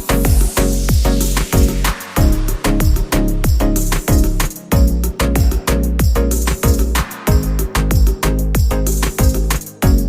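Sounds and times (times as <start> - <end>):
electronic beat music: 0.0 - 10.0
punchy bass drum: 0.0 - 10.0
sustained bass line: 0.0 - 10.0.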